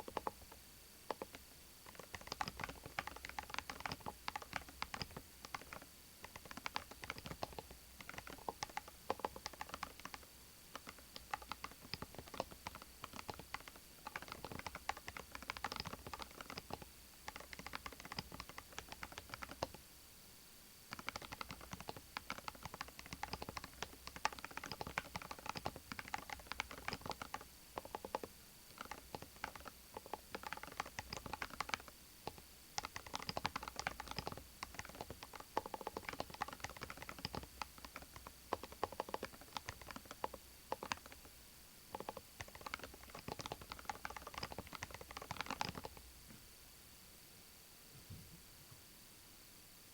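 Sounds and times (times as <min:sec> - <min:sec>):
keyboard keystroke clicks: 0:00.0 - 0:19.8, 0:20.9 - 0:41.3, 0:41.9 - 0:46.0.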